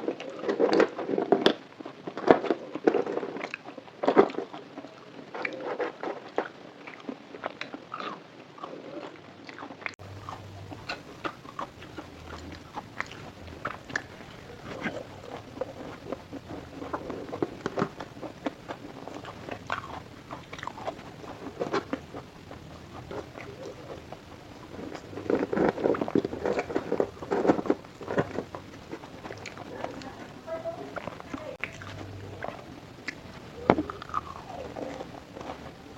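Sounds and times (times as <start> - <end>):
chewing crunchy food: 0.0 - 35.9
mouth clicks: 6.9 - 35.9.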